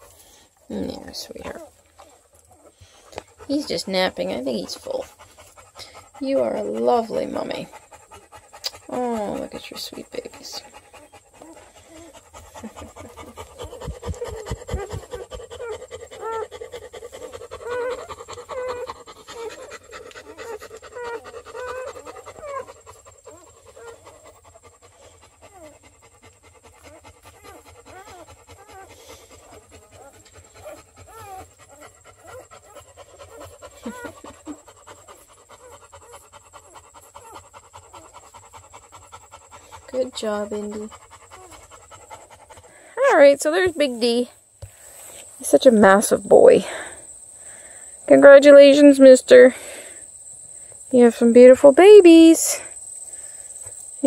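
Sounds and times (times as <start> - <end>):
puppies squeaking and grunting: 0.0 - 53.9
dog panting: 0.0 - 54.0.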